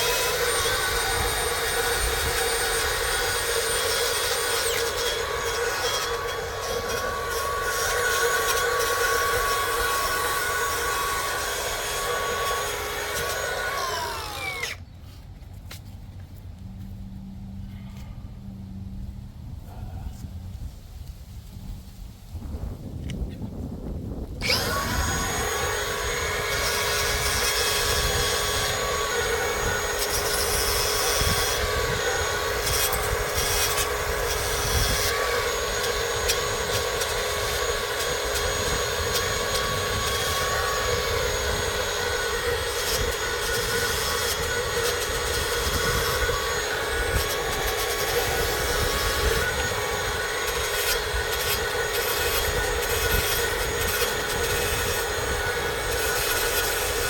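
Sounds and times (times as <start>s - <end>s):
wire brush grinder scratching metal: 0.0s - 14.8s, 24.4s - 57.0s.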